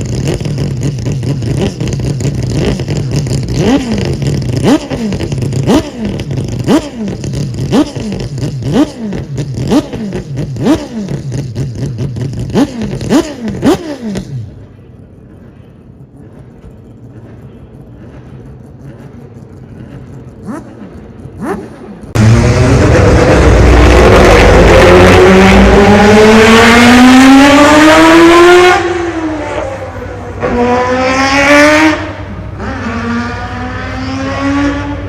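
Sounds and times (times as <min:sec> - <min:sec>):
rotary engine revving: 0:00.0 - 0:35.0.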